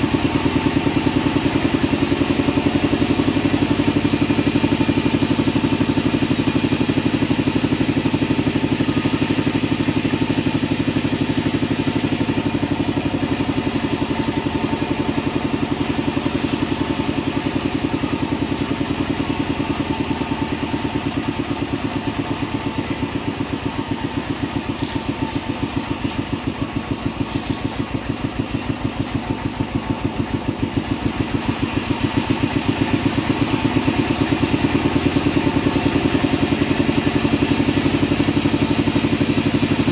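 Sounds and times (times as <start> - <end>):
sawmill machinery thumping: 0.0 - 39.9.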